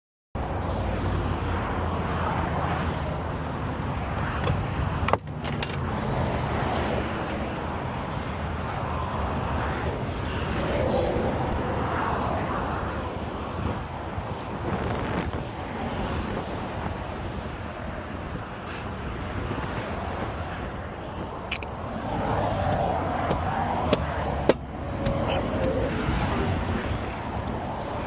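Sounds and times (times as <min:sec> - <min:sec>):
highway traffic rumble: 0:00.4 - 0:28.0.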